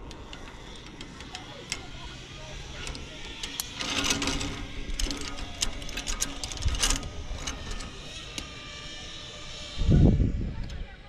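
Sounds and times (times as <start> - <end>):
mechanical clicking and rattling: 0.0 - 9.7.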